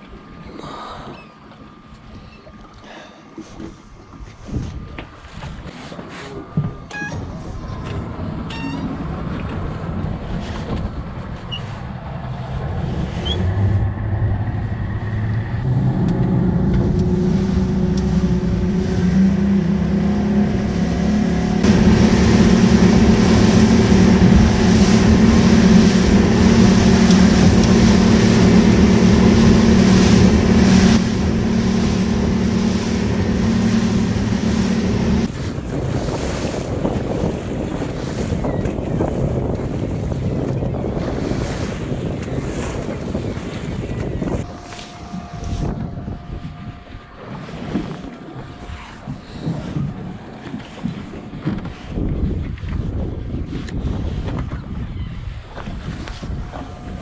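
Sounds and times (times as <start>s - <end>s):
wind and water rushing: 1.7s - 57.0s
motorboat engine throttling up: 5.6s - 52.9s.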